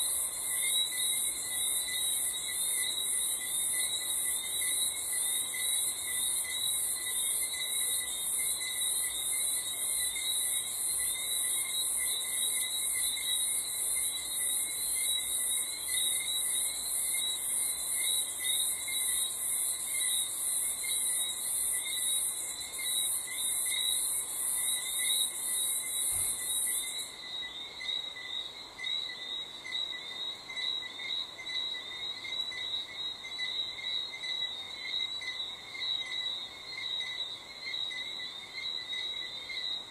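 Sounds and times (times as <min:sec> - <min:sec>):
low pulsing cricket chirping: 0:00.0 - 0:39.9.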